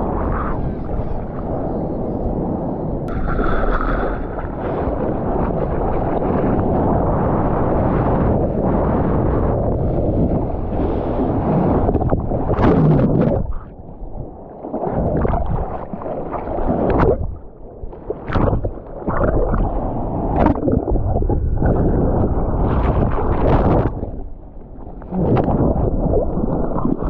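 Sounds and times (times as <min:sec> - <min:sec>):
ocean water rushing and splashing: 0:00.0 - 0:27.0
wind buffeting microphone: 0:00.0 - 0:27.0.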